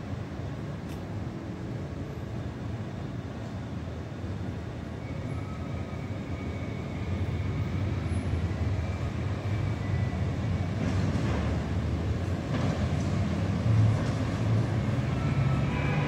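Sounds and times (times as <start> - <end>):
road traffic: 0.0 - 16.0
tram rumbling on tracks: 0.0 - 16.0.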